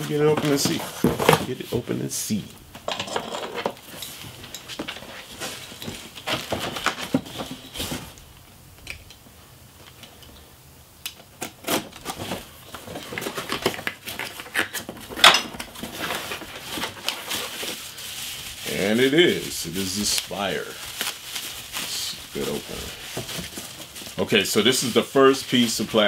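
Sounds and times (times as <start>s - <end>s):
cardboard and plastic packaging rustling: 0.0s - 8.6s, 11.2s - 26.0s.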